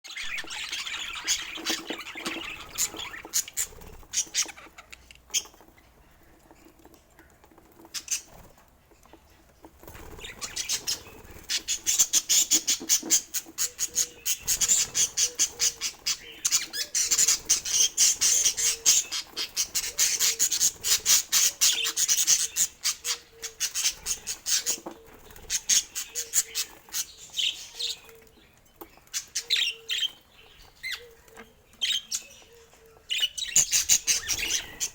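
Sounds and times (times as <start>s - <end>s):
budgies chirping and chattering: 0.0s - 34.9s.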